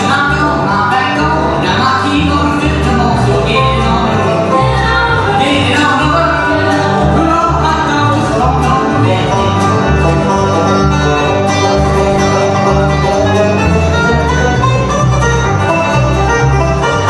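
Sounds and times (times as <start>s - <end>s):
banjo picking: 0.0s - 17.0s
instrumental bluegrass: 0.0s - 17.0s
upright bass walking: 0.0s - 17.0s.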